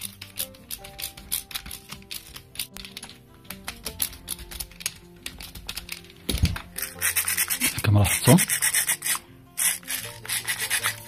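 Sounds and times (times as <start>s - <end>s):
plastic housing scraping in hands: 0.0s - 11.0s
screwdriver ticking: 0.0s - 11.0s.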